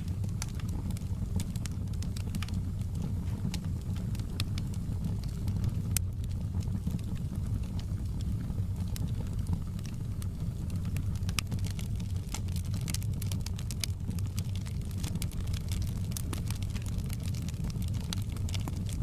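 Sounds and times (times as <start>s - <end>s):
low rumble of flames: 0.0s - 19.0s
wood fire pops and snaps: 0.0s - 19.0s.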